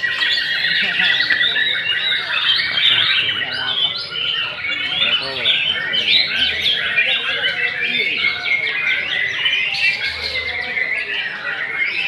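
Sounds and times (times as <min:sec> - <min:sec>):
songbirds singing in chorus: 0:00.0 - 0:12.0.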